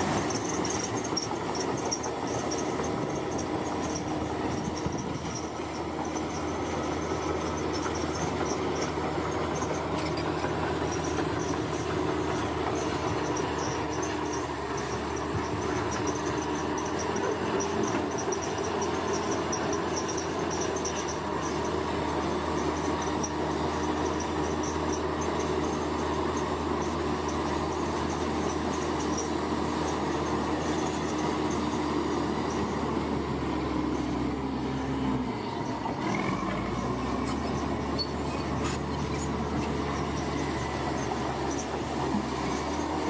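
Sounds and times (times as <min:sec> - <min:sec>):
diesel engine running under load: 0:00.0 - 0:43.0
steel tracks squeaking and clanking: 0:00.0 - 0:43.0.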